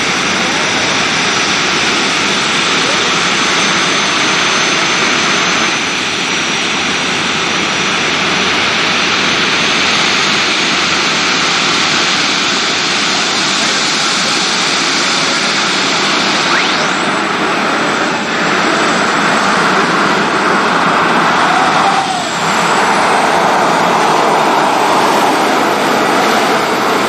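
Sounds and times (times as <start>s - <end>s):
tractor engine running loud: 0.0s - 27.0s.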